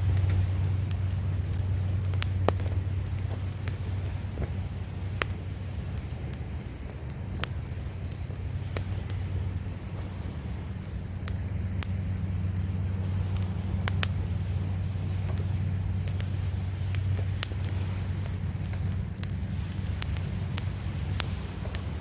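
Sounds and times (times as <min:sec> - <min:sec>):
sea waves rumbling: 0:00.0 - 0:22.0
wood fire crackling and popping: 0:00.0 - 0:22.0.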